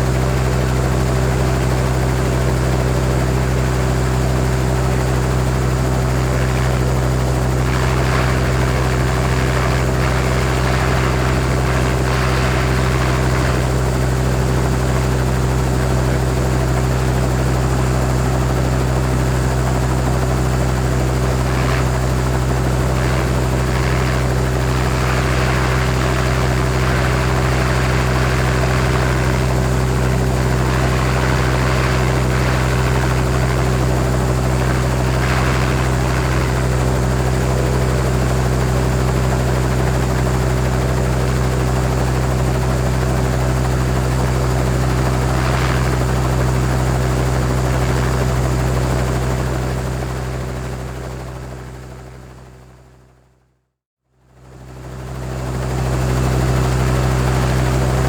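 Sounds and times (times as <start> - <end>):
helicopter idling: 0.0 - 52.6, 54.5 - 58.0.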